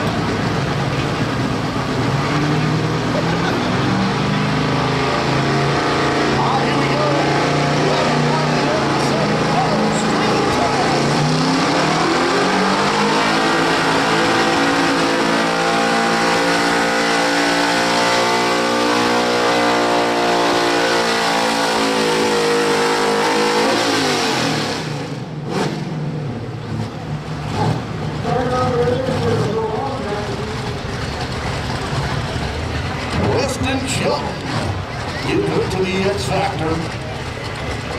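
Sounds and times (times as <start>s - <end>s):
pickup engine at full throttle: 0.0s - 37.9s
track noise: 0.0s - 37.9s.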